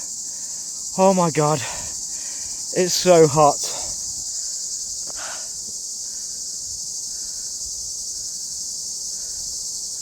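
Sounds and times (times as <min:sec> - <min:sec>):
cicadas shrilling: 0:00.0 - 0:10.0.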